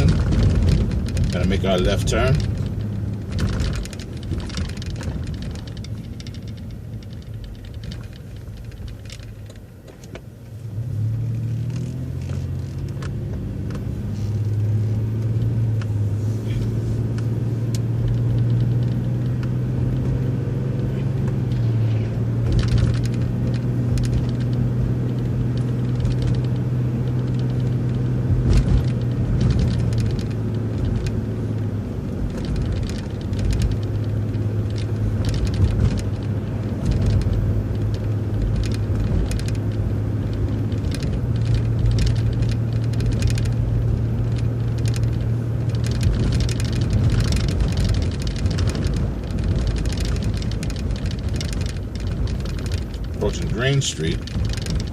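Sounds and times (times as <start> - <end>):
bus body rattling: 0.0 - 10.6, 11.6 - 54.9
bus engine drone: 0.0 - 54.9.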